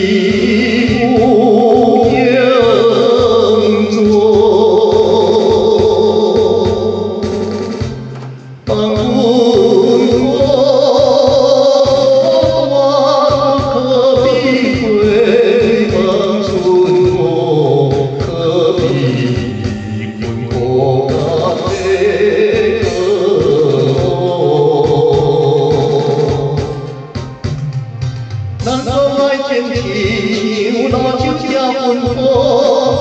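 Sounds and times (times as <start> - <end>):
instrumental backing with beat: 0.0 - 33.0
person singing slow melody: 0.0 - 33.0.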